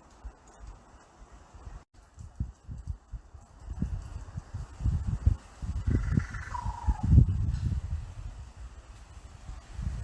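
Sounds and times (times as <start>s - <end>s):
steady outdoor hiss: 0.0s - 10.0s
wind buffeting microphone: 0.2s - 10.0s.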